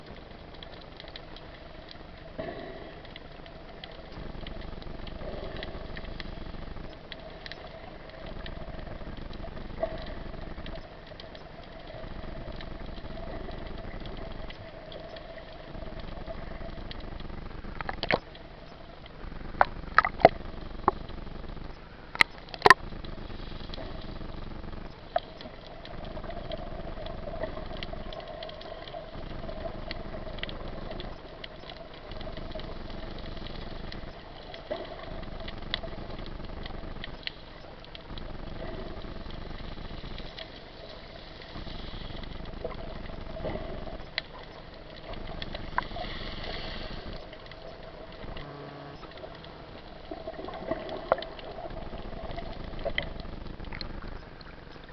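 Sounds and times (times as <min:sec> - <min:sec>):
motor hum: 0:00.2 - 0:54.9.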